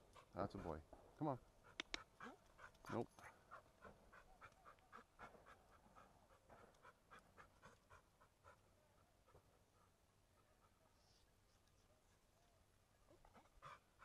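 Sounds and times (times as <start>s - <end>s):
dog panting: 0.0s - 0.9s, 1.5s - 11.2s, 13.2s - 14.0s.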